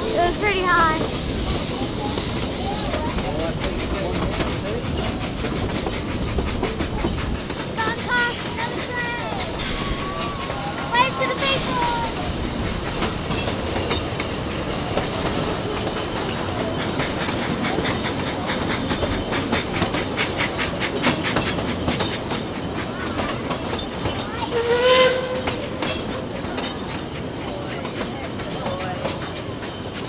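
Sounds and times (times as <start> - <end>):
wheels clacking over rail joints: 0.0 - 30.0.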